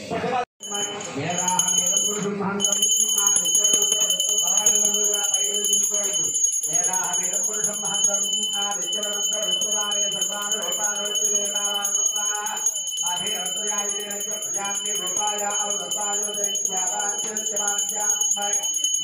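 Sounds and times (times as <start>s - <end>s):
person chanting: 0.6s - 18.7s
hand bell ringing: 0.6s - 19.0s.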